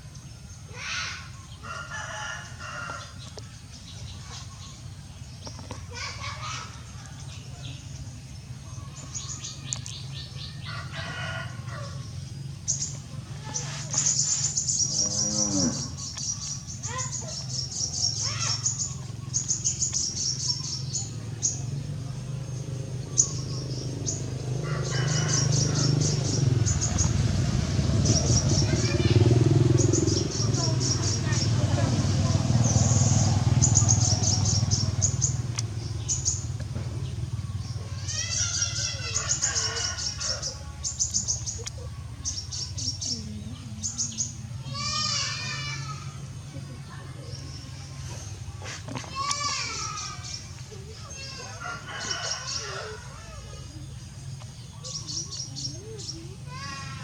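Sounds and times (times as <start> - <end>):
small birds chirping: 0.0 - 57.0
rising-and-falling calls: 8.9 - 57.0.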